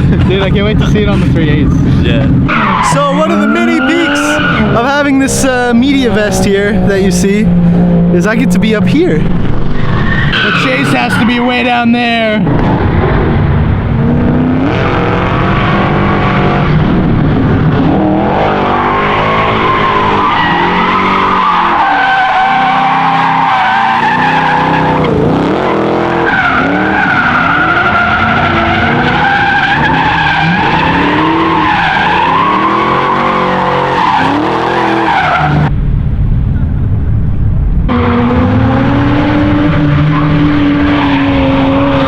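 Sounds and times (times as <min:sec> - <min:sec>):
tires squealing: 0:00.0 - 0:35.7, 0:37.9 - 0:42.0
car engine revving: 0:00.0 - 0:42.0.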